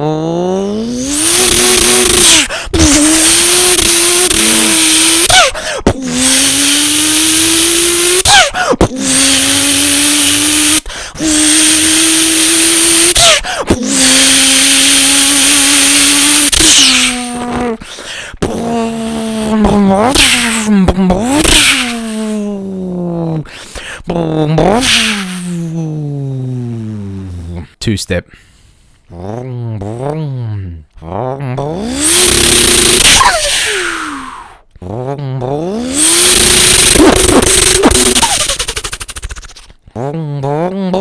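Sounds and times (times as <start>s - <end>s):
vocal turbo whoosh: 0.0s - 27.8s, 29.1s - 40.6s
man imitating engine with voice: 0.0s - 28.4s, 29.1s - 41.0s.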